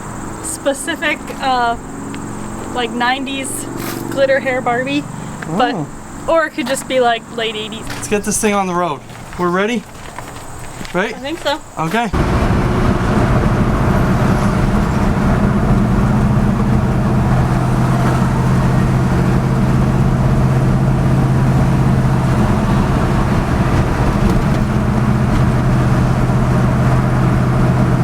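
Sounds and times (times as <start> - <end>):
pickup truck engine running: 0.0 - 28.0.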